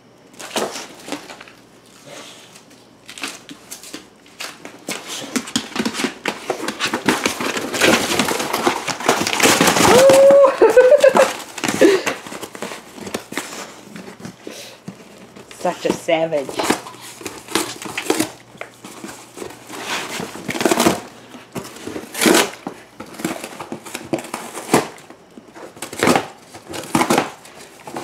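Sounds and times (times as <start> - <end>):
dog ripping cardboard: 0.4 - 28.0.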